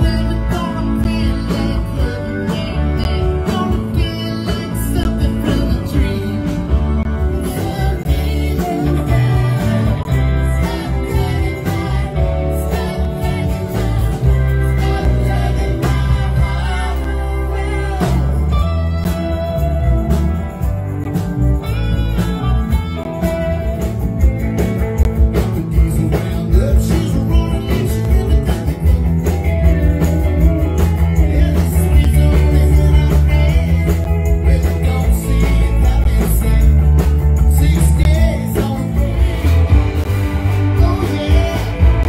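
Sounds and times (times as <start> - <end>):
drum kit steady beat: 0.0 - 42.0
electric guitars: 0.0 - 42.0.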